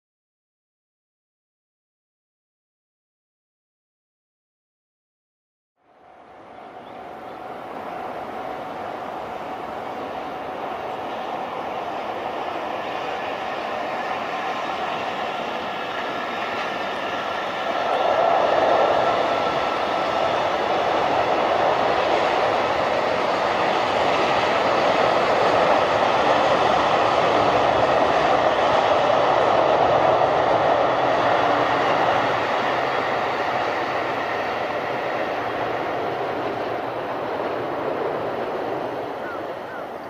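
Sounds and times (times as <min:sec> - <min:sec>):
electric train passing: 0:05.8 - 0:40.0
freight train wheels on rails: 0:06.0 - 0:40.0.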